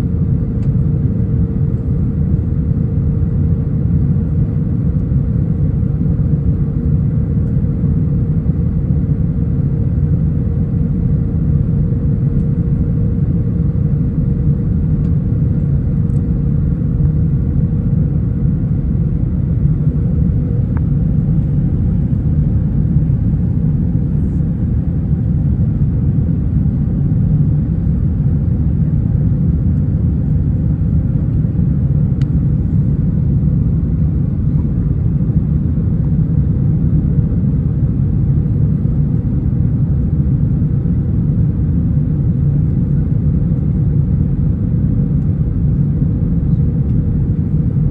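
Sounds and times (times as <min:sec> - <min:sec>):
aircraft cabin rumble: 0:00.0 - 0:47.9
faint hum: 0:00.0 - 0:47.9.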